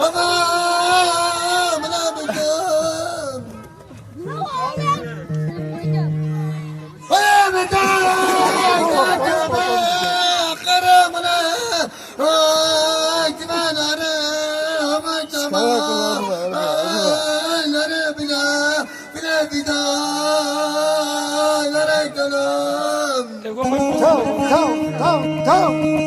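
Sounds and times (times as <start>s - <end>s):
man singing folk song: 0.0s - 3.6s, 7.1s - 26.0s.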